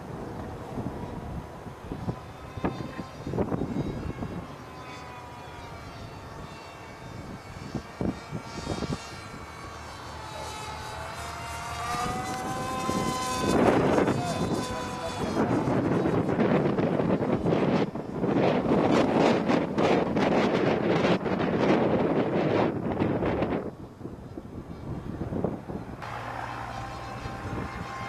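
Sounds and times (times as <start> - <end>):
model jet motor whining: 0.0 - 28.0
wind buffeting microphone: 0.0 - 28.0.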